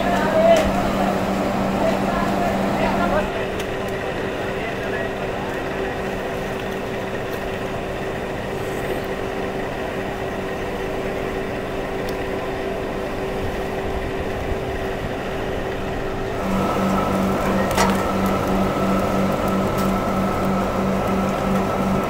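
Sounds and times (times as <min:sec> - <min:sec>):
factory machinery running: 0:00.0 - 0:22.0
high whine: 0:00.0 - 0:22.0
pulsing hum: 0:00.0 - 0:22.0.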